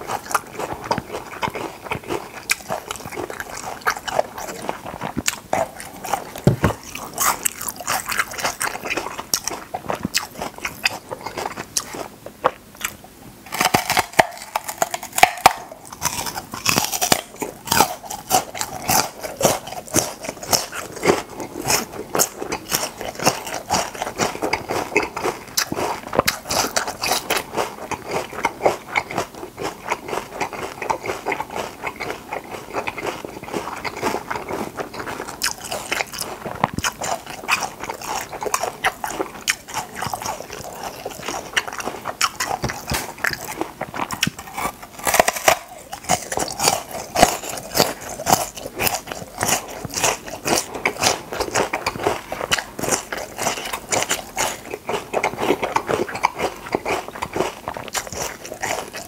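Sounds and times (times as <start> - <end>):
crunching raw lotus root: 0.0 - 59.0.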